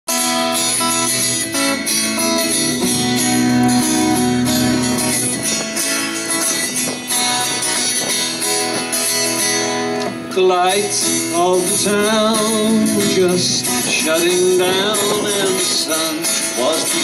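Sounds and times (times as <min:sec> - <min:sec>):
acoustic guitars playing: 0:00.1 - 0:17.0.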